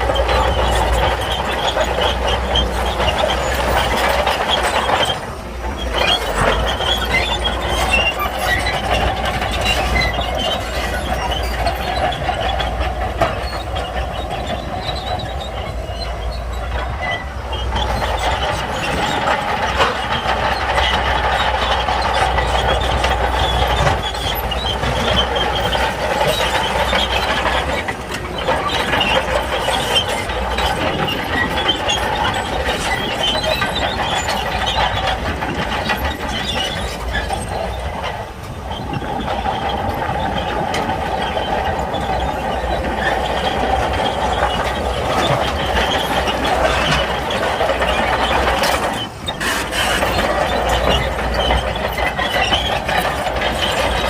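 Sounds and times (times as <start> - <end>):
bulldozer engine running: 0.0 - 54.0
steel tracks clanking: 0.0 - 54.0.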